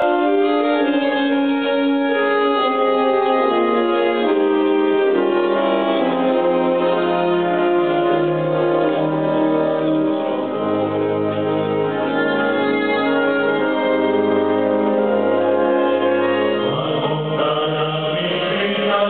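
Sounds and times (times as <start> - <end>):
wind orchestra playing held chords: 0.0 - 19.0.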